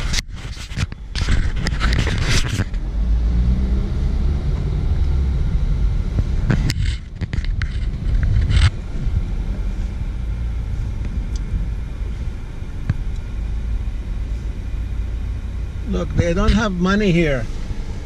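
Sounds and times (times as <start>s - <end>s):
car rumble from inside cabin: 0.0s - 18.0s.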